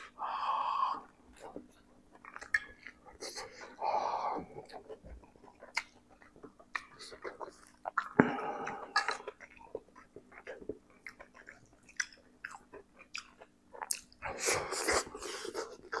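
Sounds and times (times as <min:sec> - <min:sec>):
wet chewing and smacking: 0:01.3 - 0:16.0.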